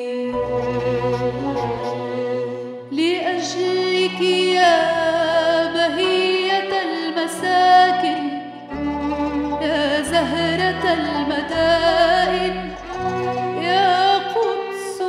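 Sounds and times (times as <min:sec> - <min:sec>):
woman singing a hymn: 0:00.0 - 0:01.8, 0:02.8 - 0:08.6, 0:09.6 - 0:12.8, 0:13.5 - 0:15.0
instrumental accompaniment: 0:00.0 - 0:15.0.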